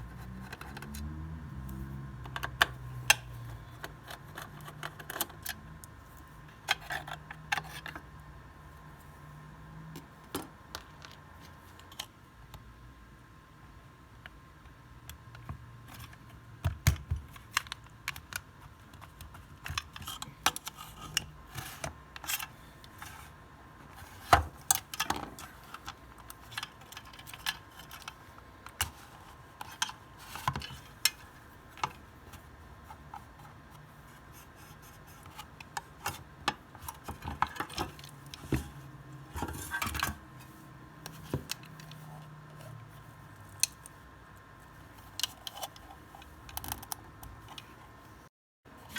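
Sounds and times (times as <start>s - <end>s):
faint electrical hum: 0.0s - 48.9s.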